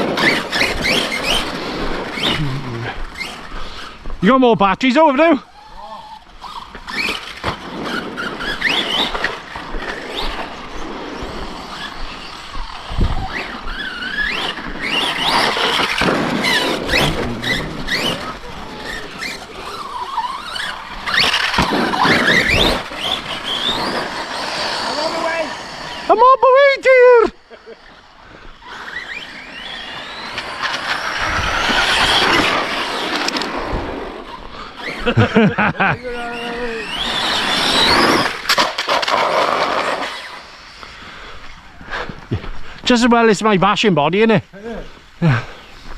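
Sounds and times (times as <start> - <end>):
electric motors whining: 0.0 - 4.1, 5.4 - 41.7
tyres rushing on dirt: 0.0 - 5.4, 6.3 - 40.8.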